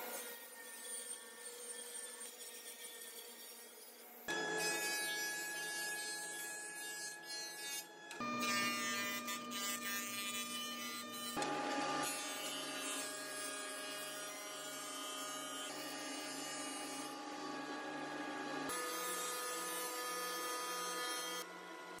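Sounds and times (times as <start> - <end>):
woodworking machines whining: 4.2 - 22.0.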